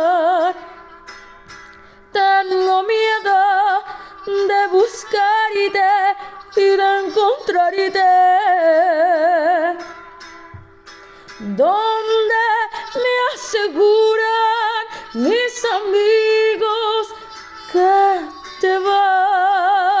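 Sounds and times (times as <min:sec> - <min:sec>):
woman singing with vibrato: 0:00.0 - 0:01.1, 0:02.1 - 0:10.5, 0:11.4 - 0:20.0.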